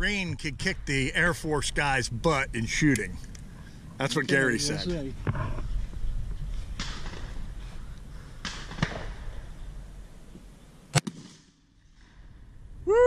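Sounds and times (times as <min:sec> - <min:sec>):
low wind rumble: 0:00.0 - 0:10.9, 0:11.9 - 0:13.0.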